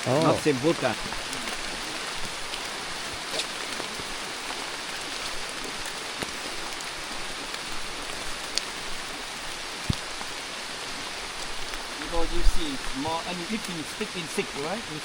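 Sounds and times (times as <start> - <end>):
steady rain-like hiss: 0.0 - 15.0.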